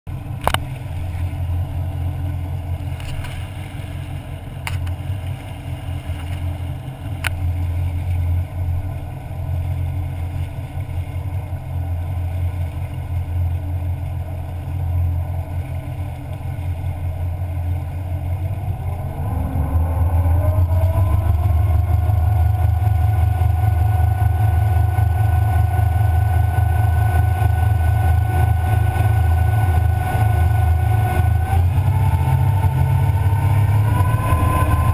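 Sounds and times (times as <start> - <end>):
boat engines rumbling: 0.1 - 34.9.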